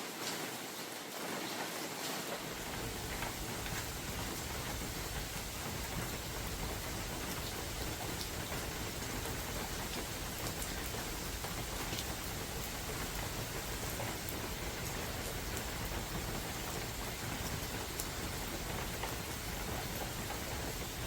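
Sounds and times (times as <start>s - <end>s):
rain falling: 0.0s - 21.0s
low wind rumble: 2.4s - 21.0s
raindrops ticking: 2.4s - 21.0s.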